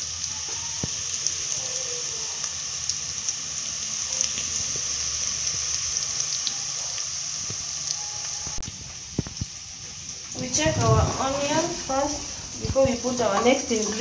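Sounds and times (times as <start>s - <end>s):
meat and onions sizzling in oil: 0.0s - 14.0s.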